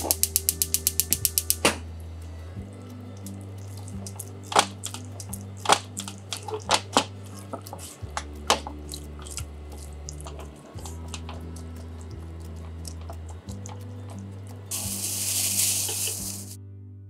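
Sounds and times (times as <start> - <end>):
liquid simmering with wet crackles: 0.0 - 16.6
soft background music: 0.0 - 17.0.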